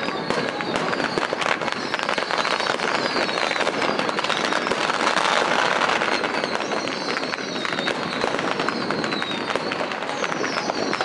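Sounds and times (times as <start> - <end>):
falling whistles: 0.0 - 11.0
firecrackers crackling: 0.0 - 11.0.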